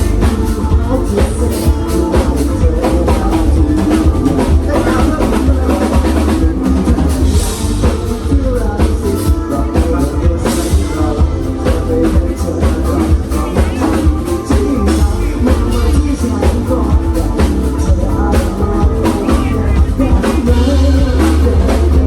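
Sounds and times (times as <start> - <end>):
drum kit beat: 0.0 - 22.0
live band playing pop song: 0.0 - 22.0.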